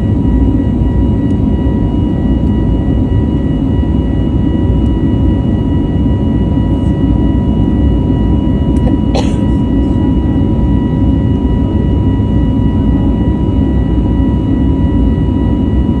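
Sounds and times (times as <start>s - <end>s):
jet engines rumbling and whining: 0.0s - 16.0s.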